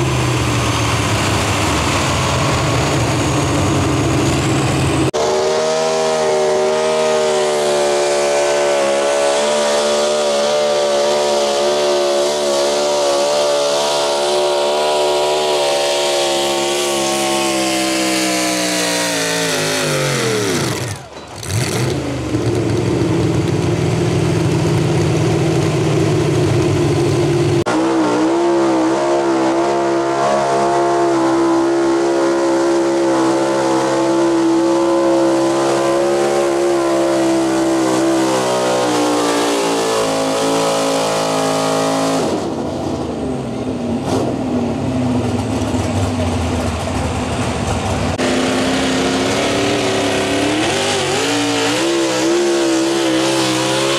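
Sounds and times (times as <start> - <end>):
truck engines at full throttle: 0.0 - 53.9.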